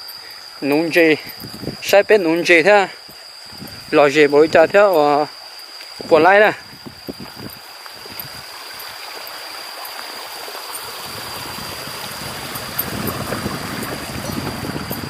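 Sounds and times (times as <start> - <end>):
steady high-pitched tone: 0.0 - 15.0
running water rushing: 0.4 - 15.0.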